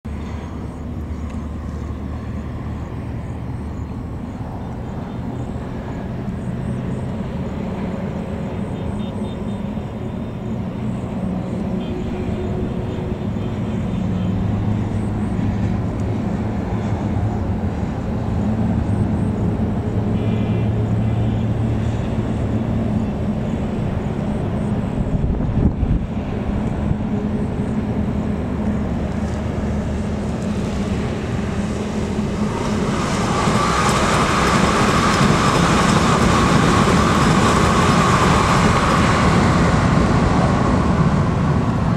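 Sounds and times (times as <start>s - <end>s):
electric train rumbling: 0.1s - 41.9s.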